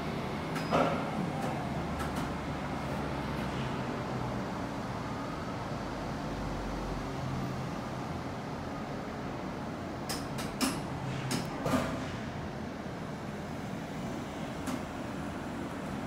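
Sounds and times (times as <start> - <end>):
light rail vehicle humming: 0.0 - 16.0.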